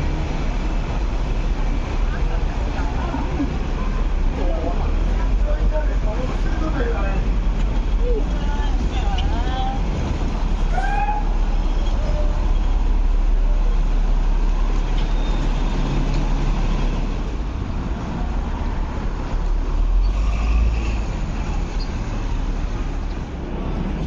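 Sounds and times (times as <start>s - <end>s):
buses passing: 0.0s - 24.0s.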